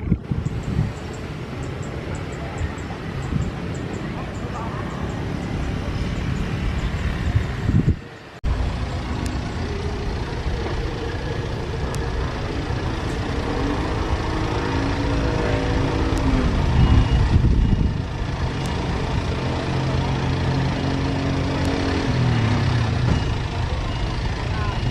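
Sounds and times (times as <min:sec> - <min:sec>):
engine rumble: 0:00.0 - 0:24.9.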